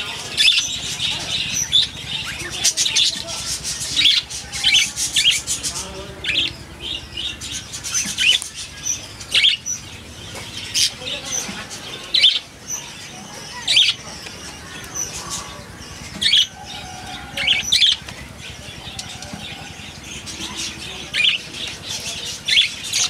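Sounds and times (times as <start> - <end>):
budgerigars chirping and warbling: 0.0 - 23.0.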